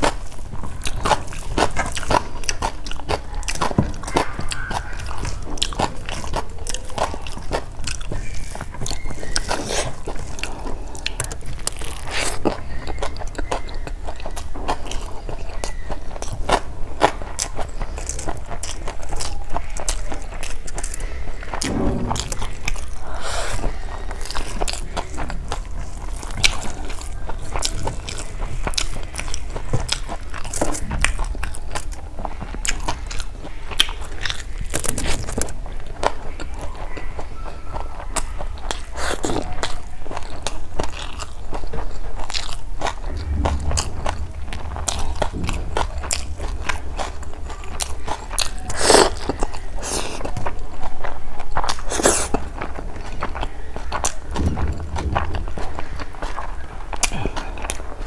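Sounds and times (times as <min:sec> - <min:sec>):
close chewing of food: 0:00.0 - 0:58.0.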